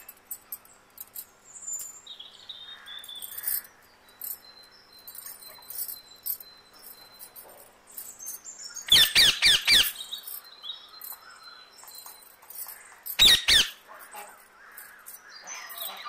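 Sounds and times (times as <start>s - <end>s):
faint high chirping: 0.0s - 16.0s.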